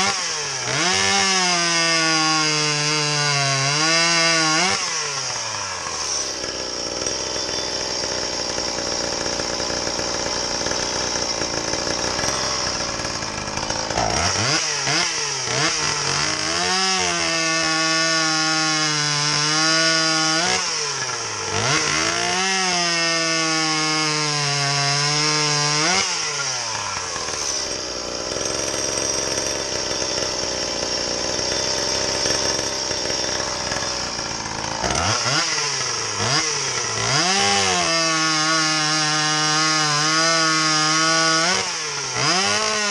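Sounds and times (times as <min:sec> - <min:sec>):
chainsaw cutting wood: 0:00.0 - 0:42.9
chainsaw revving freely: 0:00.0 - 0:42.9.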